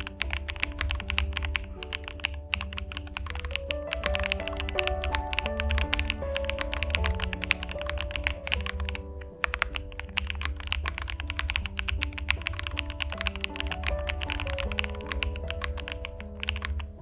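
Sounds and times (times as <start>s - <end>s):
background music: 0.0s - 17.0s
fast typing on mechanical keyboard: 0.0s - 17.0s.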